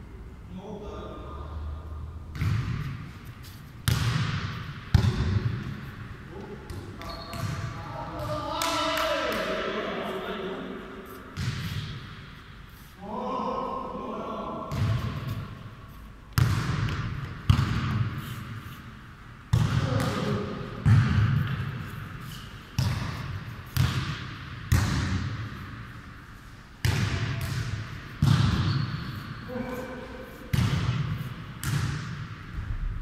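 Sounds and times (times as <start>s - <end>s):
football thuds in echoing hall: 0.6s - 33.0s.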